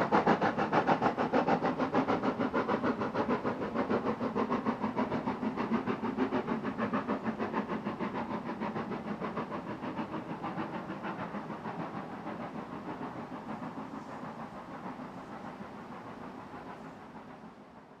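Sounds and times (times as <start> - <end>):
steam locomotive exhaust beats: 0.0 - 18.0.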